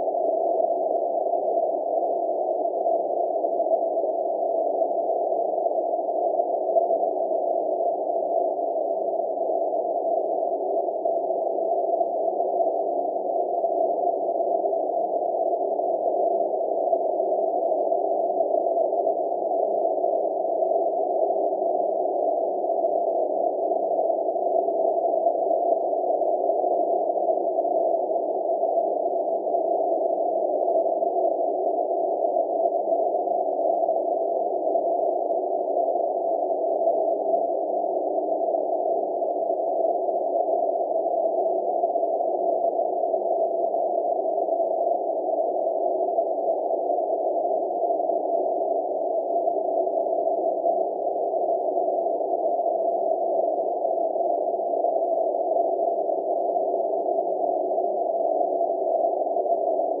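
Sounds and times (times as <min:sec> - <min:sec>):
steady hum: 0:00.0 - 1:00.0.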